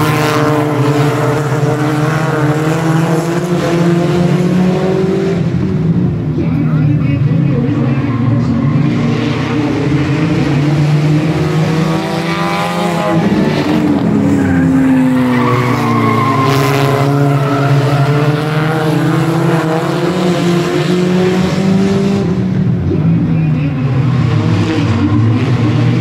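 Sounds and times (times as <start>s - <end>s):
racing car engines: 0.0s - 26.0s.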